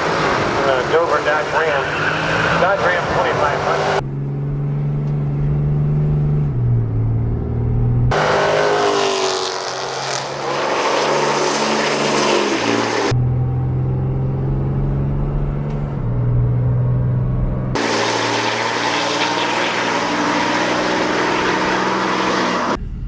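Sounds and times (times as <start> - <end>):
engines running steadily: 0.0 - 23.0
full-throttle engine launch: 0.0 - 23.0.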